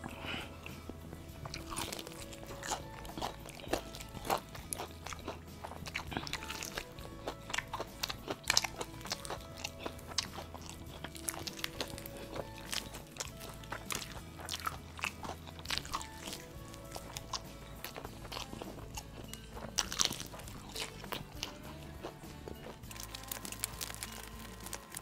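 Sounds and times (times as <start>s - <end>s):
background music: 0.0s - 25.0s
fried chicken crunching: 0.0s - 25.0s.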